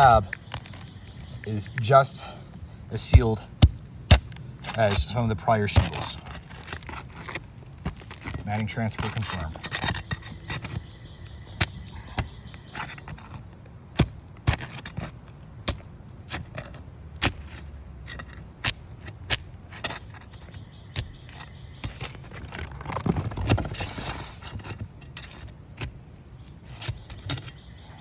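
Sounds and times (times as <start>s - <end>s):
shingle tearing scrape: 2.9s - 27.9s.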